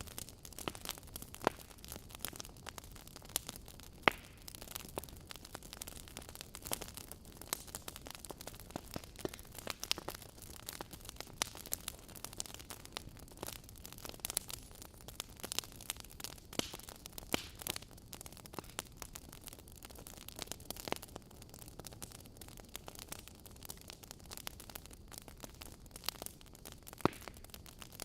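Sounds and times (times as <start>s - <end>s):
logs crackling and popping: 0.0s - 28.0s
wood fire hissing: 0.0s - 28.0s.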